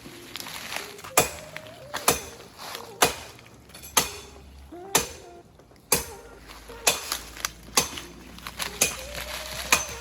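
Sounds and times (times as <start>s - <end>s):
hand tool striking wood: 1.0s - 10.0s.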